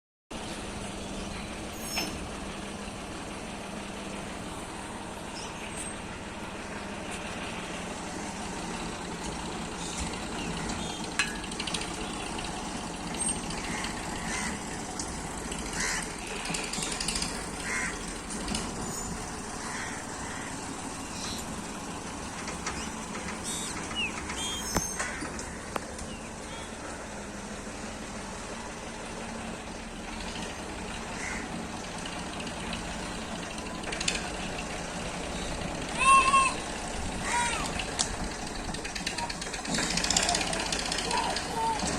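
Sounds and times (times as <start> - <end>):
tractor engine running: 0.3 - 41.9.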